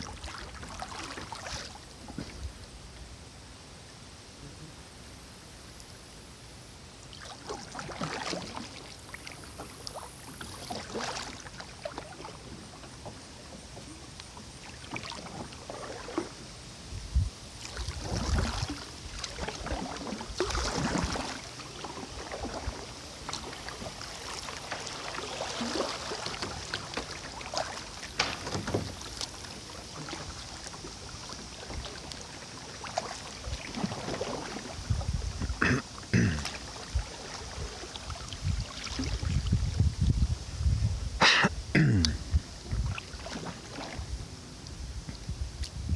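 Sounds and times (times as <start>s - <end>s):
paddle strokes splashing water: 0.0s - 3.1s, 5.3s - 45.9s.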